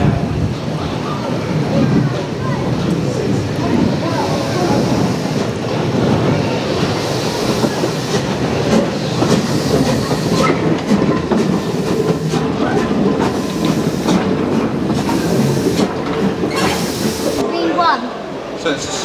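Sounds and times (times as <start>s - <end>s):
steam locomotive rumble and hiss: 0.0s - 17.5s
wheels clanking over rail joints: 1.5s - 17.4s.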